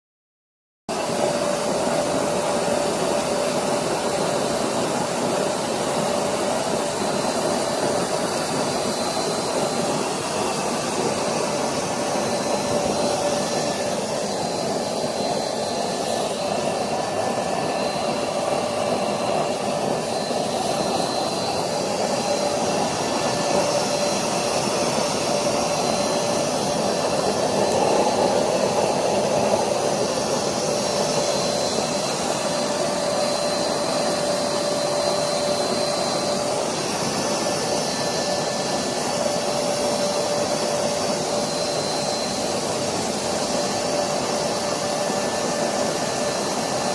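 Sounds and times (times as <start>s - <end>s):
faint blower whine: 0.9s - 46.9s
oil burner roaring: 0.9s - 46.9s.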